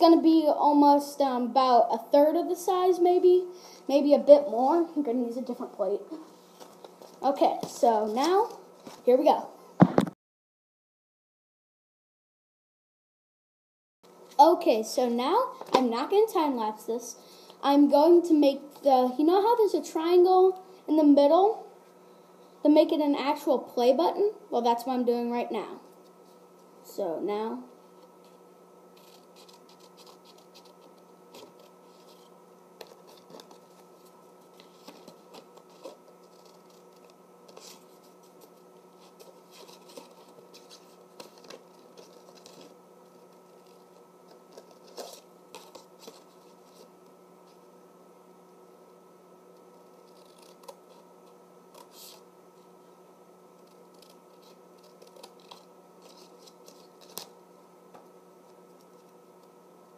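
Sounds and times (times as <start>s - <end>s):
faint steady hum: 0.0s - 10.2s, 14.1s - 59.9s.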